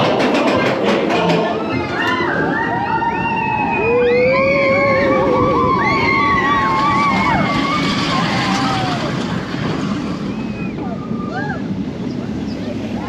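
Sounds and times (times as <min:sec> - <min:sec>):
roller coaster rushing rumble: 0:00.0 - 0:13.0
riders screaming and whooping: 0:01.3 - 0:13.0.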